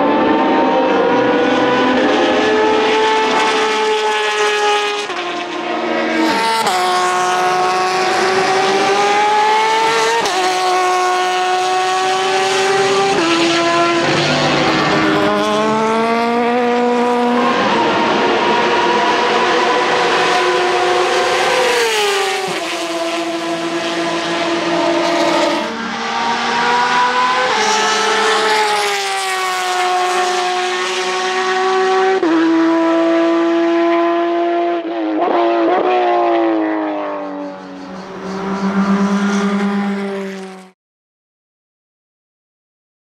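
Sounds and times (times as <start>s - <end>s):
racing car engine shifting gears: 0.2s - 40.6s.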